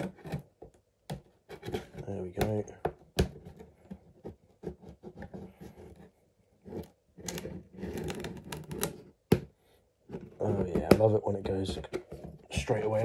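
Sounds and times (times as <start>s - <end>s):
cardboard scraping and rustling: 0.0s - 0.5s, 1.4s - 2.6s, 3.3s - 9.1s, 10.1s - 13.0s.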